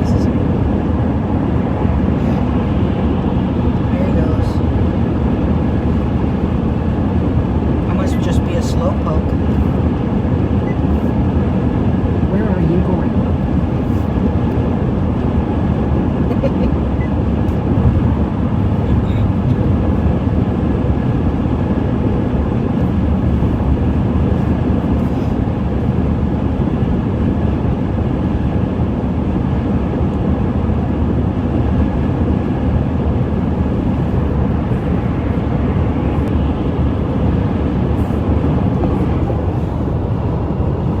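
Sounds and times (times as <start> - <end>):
car engine hum: 0.0 - 41.0
road and tyre noise: 0.0 - 41.0.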